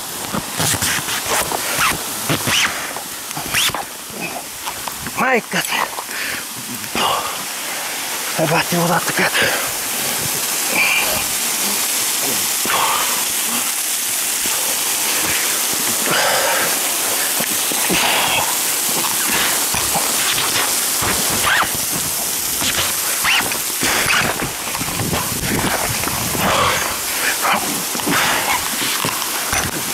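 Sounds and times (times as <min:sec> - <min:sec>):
waterfall pouring: 0:00.0 - 0:29.9.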